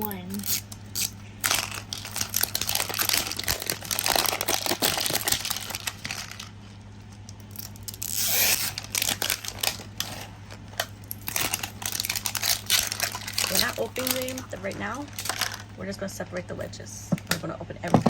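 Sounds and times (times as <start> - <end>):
packaging tearing: 0.0 - 6.6, 7.2 - 15.7
plastic packaging crinkling: 0.0 - 16.2.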